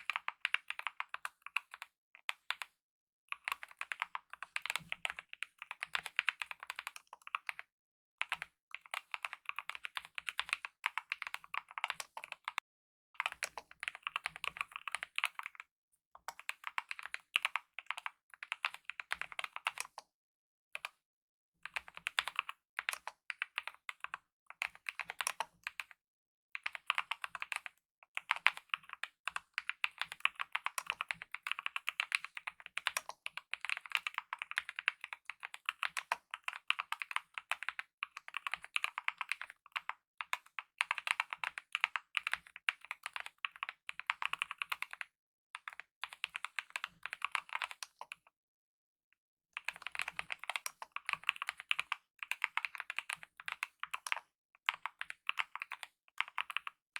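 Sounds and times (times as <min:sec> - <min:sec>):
mechanical keyboard typing: 0:03.4 - 0:07.6, 0:08.3 - 0:12.6, 0:13.2 - 0:15.6, 0:16.3 - 0:20.0, 0:21.7 - 0:25.8, 0:26.6 - 0:48.2, 0:49.6 - 0:56.8.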